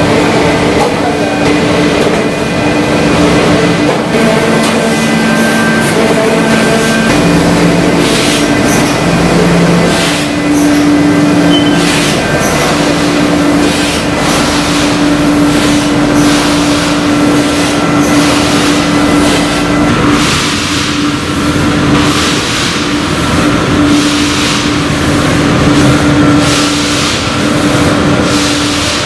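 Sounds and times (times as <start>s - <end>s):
printing machinery drone: 0.0s - 29.0s.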